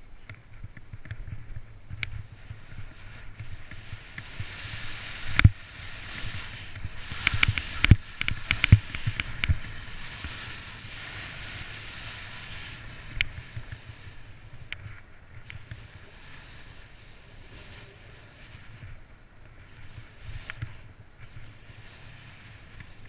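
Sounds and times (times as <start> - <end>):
snowboard hissing through snow: 2.2 - 23.0.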